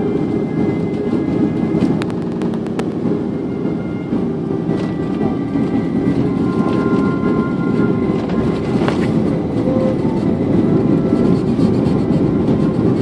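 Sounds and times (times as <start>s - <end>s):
runway and engine rumble: 0.0s - 13.0s.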